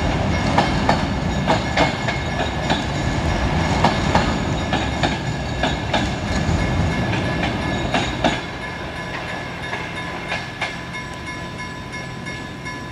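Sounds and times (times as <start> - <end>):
train rumble: 0.0 - 12.9
train wheels clacking over rail joints: 0.2 - 10.8.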